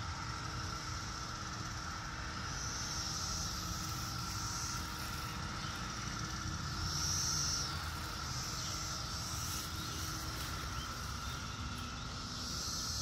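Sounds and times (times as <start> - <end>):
cicada drone: 0.0 - 13.0
higher cicada buzzing calls: 0.0 - 13.0.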